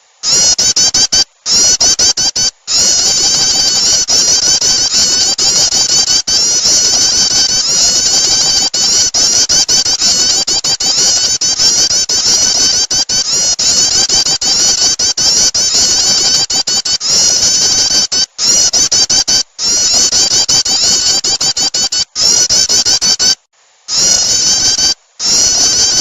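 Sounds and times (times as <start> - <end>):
bird chirping rapidly: 0.2 - 26.0.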